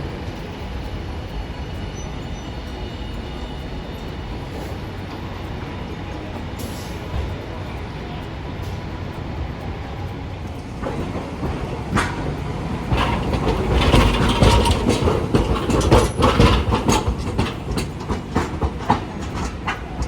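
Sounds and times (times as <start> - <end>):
streetcar wheels clattering on rails: 0.0 - 20.0.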